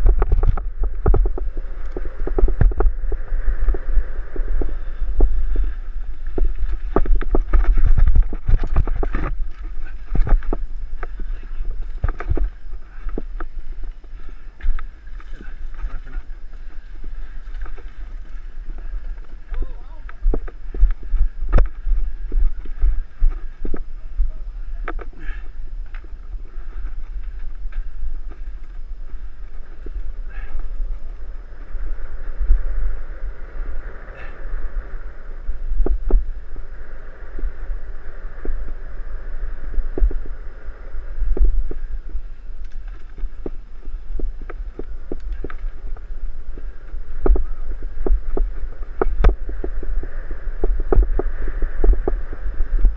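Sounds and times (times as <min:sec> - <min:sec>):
bike clicks and rattles: 0:00.0 - 0:32.4, 0:39.7 - 0:52.9
wind buffeting microphone: 0:00.0 - 0:52.9.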